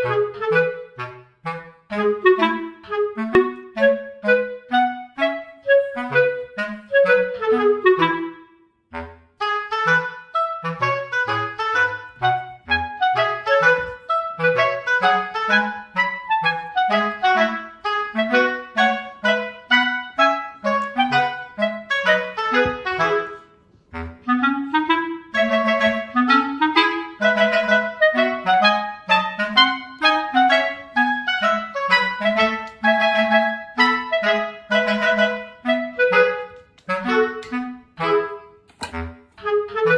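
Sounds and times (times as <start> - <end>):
playful woodwind melody: 0.0 - 39.9.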